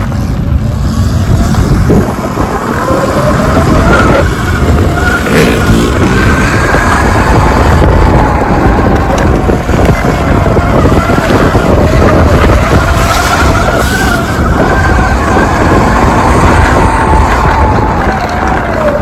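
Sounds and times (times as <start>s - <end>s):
off-road motorcycle engine whine: 0.0s - 19.0s
wind rumble: 0.0s - 19.0s.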